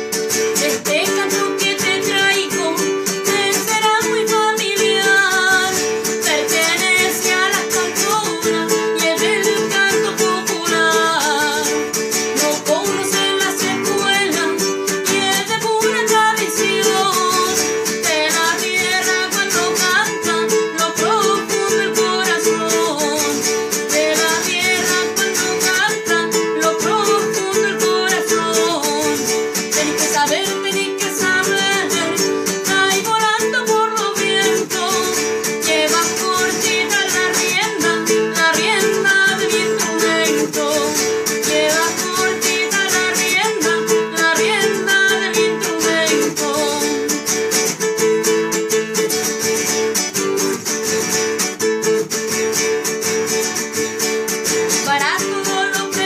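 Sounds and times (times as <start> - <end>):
acoustic guitar picked and strummed: 0.0 - 56.0.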